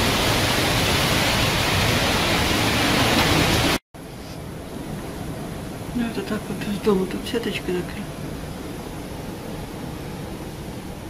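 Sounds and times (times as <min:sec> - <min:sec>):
hurricane wind blowing through trees: 0:00.0 - 0:11.0.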